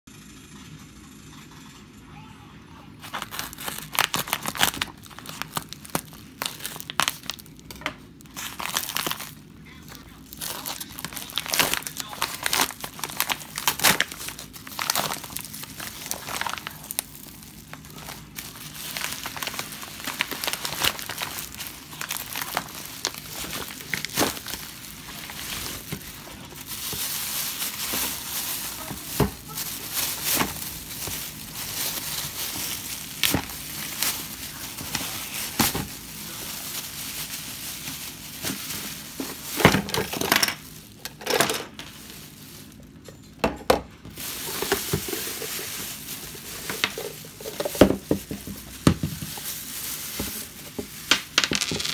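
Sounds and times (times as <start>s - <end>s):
plastic bags crinkling: 3.0s - 51.9s.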